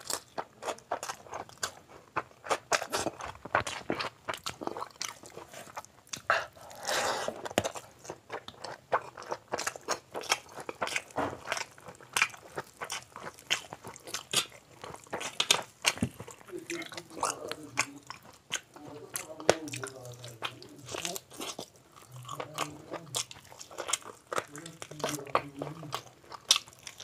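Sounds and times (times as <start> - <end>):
wet chewing mouth sounds: 0.0 - 27.0.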